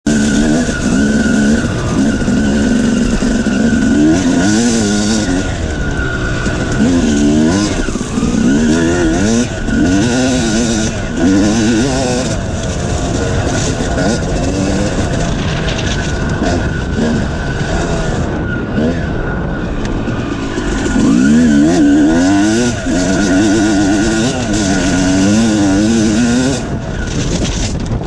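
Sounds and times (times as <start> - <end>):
dirt bike engine revving: 0.0 - 28.0
tyres on loose gravel: 0.1 - 28.0.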